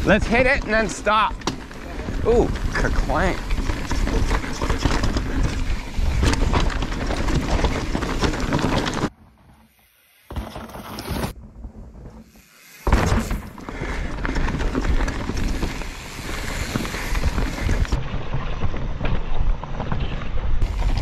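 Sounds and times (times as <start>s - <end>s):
bike rattling over bumps: 0.0s - 21.0s
bike tyres on dirt: 0.0s - 21.0s.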